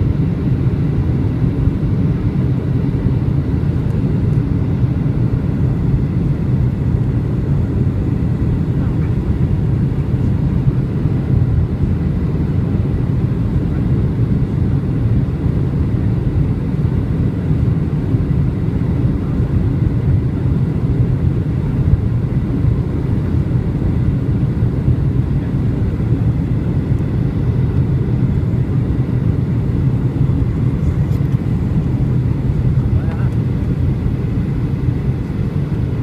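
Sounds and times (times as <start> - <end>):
airliner cabin rumble: 0.0 - 36.0.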